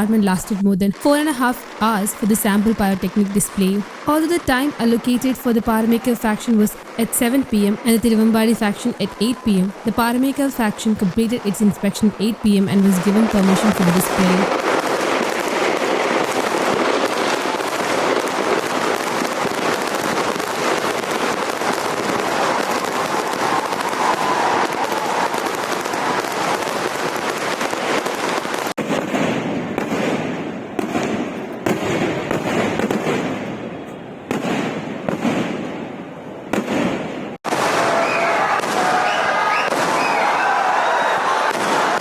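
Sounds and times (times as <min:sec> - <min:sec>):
firecracker crackle: 0:00.0 - 0:42.0
fireworks bangs: 0:00.0 - 0:42.0.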